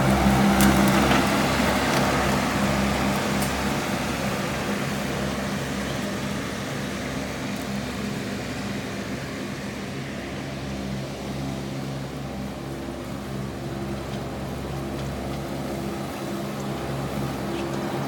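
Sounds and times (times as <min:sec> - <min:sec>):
mower engine running: 0:00.0 - 0:18.0.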